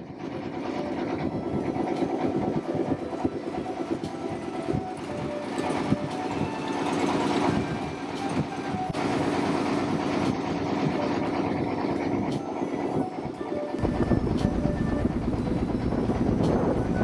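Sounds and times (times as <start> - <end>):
boat engine chugging: 0.0 - 17.0.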